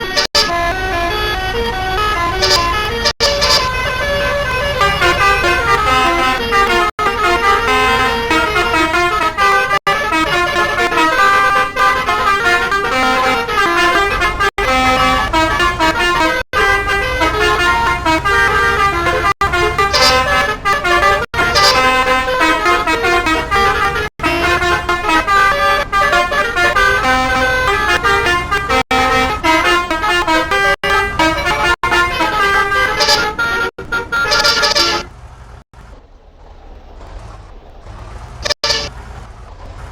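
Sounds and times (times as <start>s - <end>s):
musical bus horn playing tunes: 0.0s - 35.1s, 38.4s - 38.9s.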